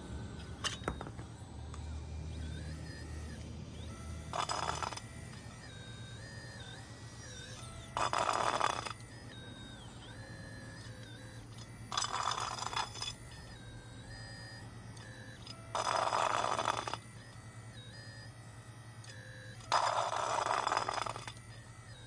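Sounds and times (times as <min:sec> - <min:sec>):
hydraulic pump whine and hum: 0:00.0 - 0:22.0.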